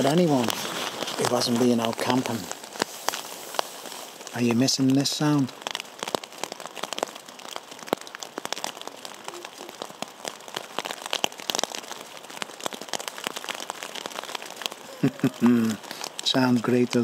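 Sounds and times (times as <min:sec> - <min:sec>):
rain pattering on a tarp: 0:00.0 - 0:17.0.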